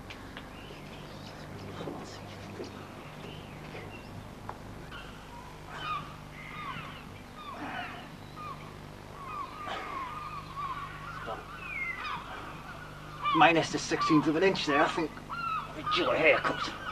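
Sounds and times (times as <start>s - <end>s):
faint low hum: 0.0s - 16.9s
many birds calling: 0.2s - 16.9s.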